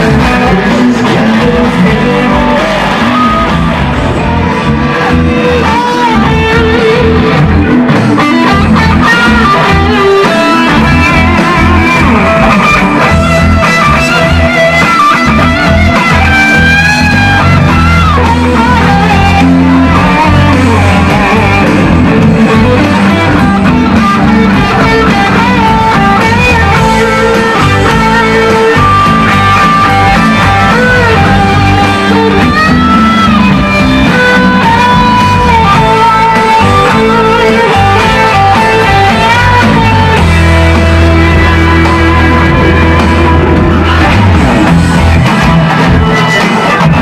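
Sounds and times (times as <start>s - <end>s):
electric guitar: 0.0s - 47.0s
rock band playing: 0.0s - 47.0s.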